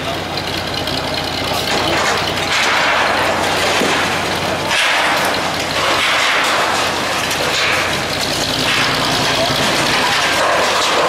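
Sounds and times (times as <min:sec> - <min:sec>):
diesel engine running: 0:00.0 - 0:11.0
concrete rubble crashing down: 0:00.8 - 0:11.0.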